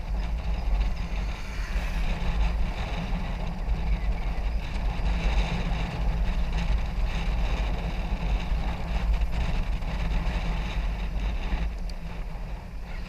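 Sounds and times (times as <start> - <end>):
tyres rolling on asphalt: 0.0 - 13.0
wind buffeting microphone: 0.0 - 13.0.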